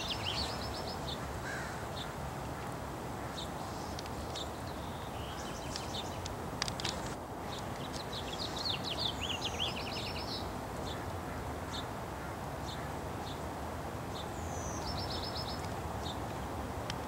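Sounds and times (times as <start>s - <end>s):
songbird singing: 0.0s - 13.5s, 14.1s - 17.0s
low background noise: 0.0s - 17.0s.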